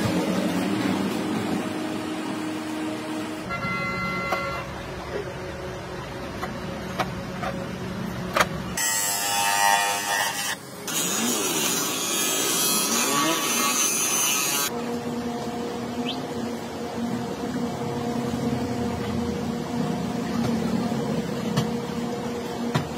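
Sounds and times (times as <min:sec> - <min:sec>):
low workshop hum: 0:00.0 - 0:22.9.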